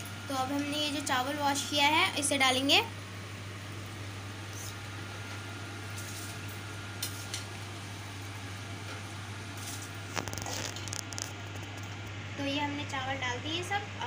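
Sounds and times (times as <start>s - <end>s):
gas burner low hum: 0.0s - 14.0s
water boiling in a pot: 0.0s - 14.0s.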